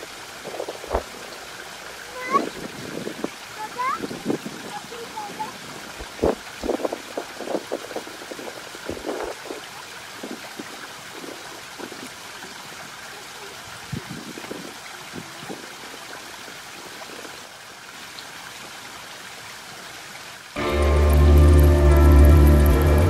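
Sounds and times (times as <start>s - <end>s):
river running over gravel: 0.0s - 23.0s.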